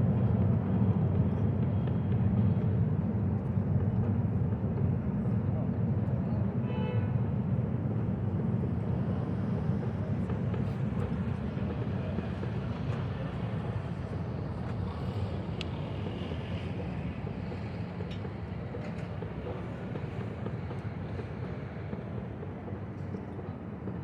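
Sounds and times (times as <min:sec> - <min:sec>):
low city rumble: 0:00.0 - 0:24.0.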